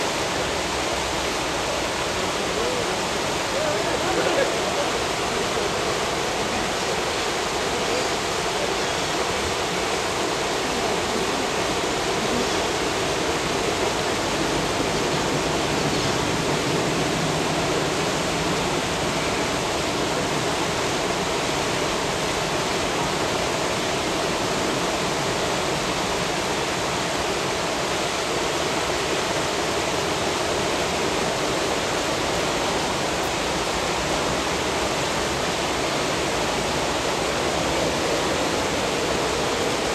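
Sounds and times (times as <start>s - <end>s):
churning foaming water rushing: 0.0s - 39.9s.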